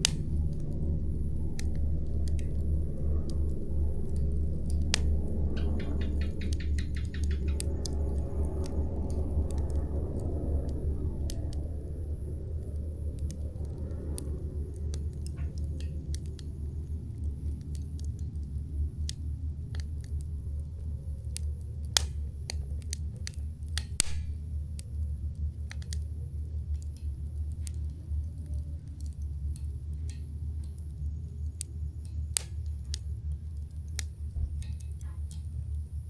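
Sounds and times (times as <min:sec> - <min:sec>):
campfire crackling and popping: 0:00.0 - 0:36.0
low rumbling hiss of fire: 0:00.0 - 0:36.0.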